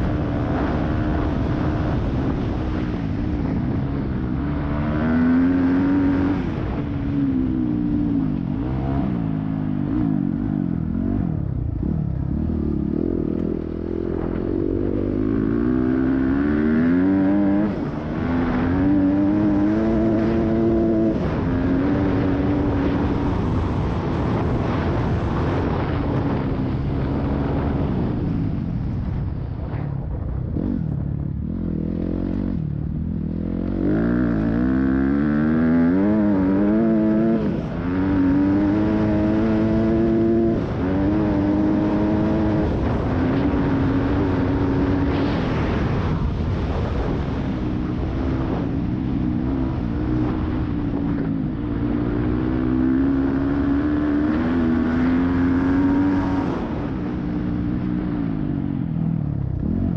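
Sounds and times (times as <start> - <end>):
dirt bike engine revving: 0.0 - 27.9, 30.6 - 58.2.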